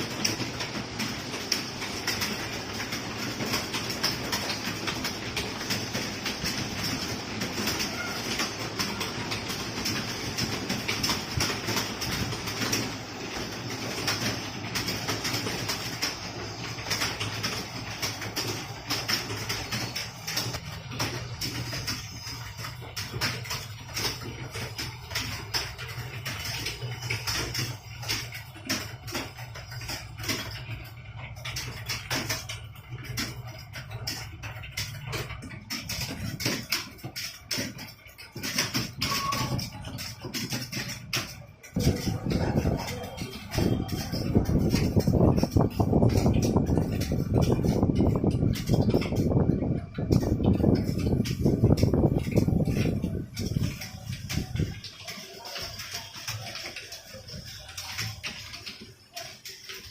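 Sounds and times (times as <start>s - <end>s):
keyboards clattering: 0.0s - 59.9s.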